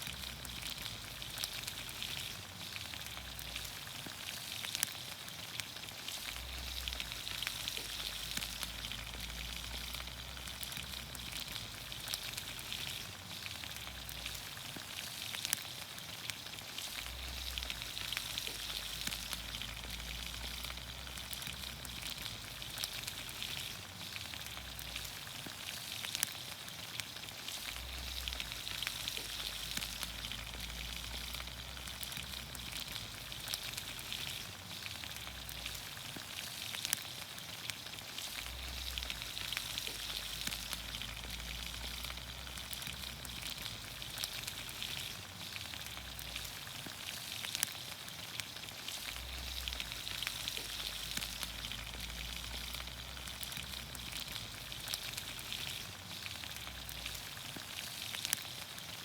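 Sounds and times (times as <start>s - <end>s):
small crackles and pops: 0.0s - 59.0s
vegetables sizzling in a pan: 0.0s - 59.0s.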